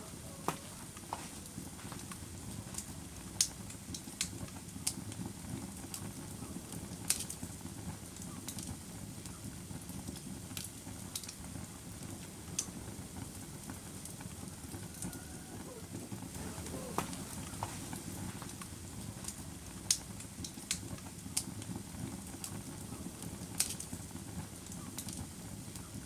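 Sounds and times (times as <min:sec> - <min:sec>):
fire crackling and popping: 0:00.0 - 0:26.0
flames rushing: 0:00.1 - 0:25.8.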